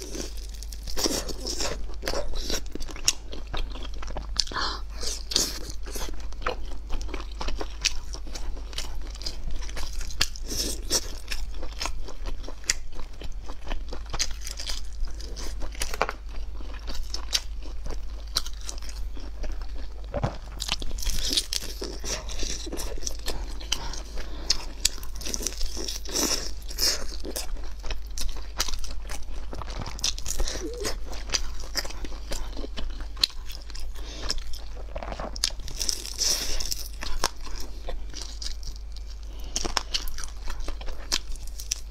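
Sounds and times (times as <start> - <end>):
person biting and chewing: 0.0 - 41.9.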